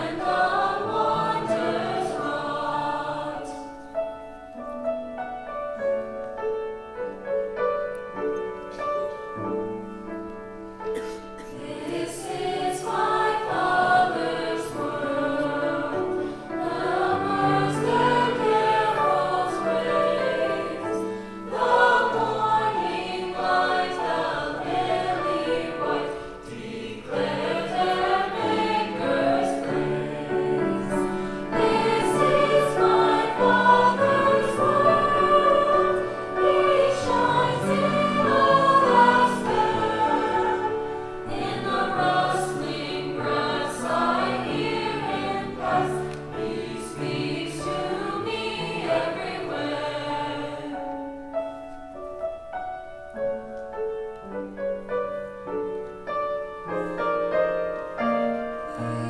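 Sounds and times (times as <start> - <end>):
children's choir singing: 0.0 - 4.8, 7.8 - 51.6, 54.2 - 59.0.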